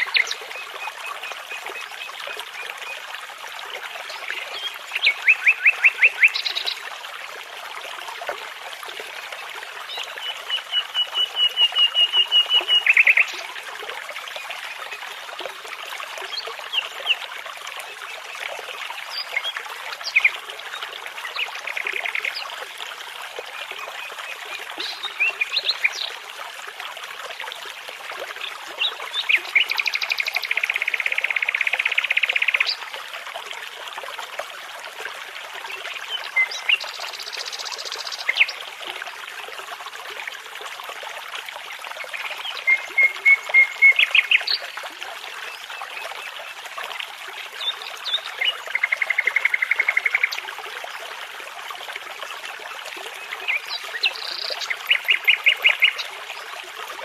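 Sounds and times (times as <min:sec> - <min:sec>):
babbling brook: 0:00.0 - 0:57.0.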